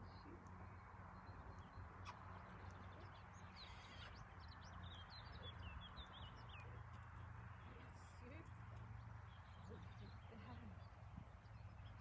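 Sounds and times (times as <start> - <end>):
outdoor background noise: 0.0 - 12.0
songbird chirping: 0.0 - 12.0.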